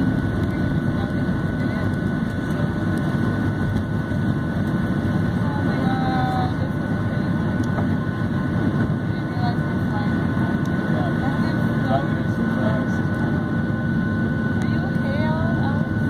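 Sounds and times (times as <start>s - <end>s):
airplane cabin roar: 0.0s - 16.0s.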